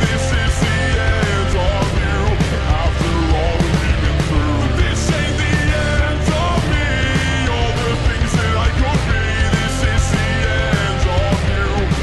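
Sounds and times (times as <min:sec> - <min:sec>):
rock music with singing: 0:00.0 - 0:12.0.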